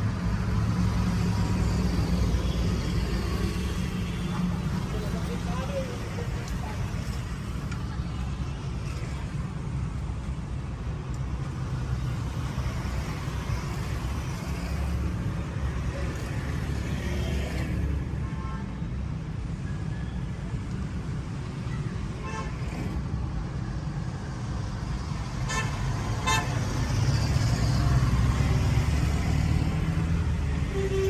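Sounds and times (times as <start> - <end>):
passing vehicles rumbling: 0.0 - 31.0
road noise hiss: 0.0 - 31.0.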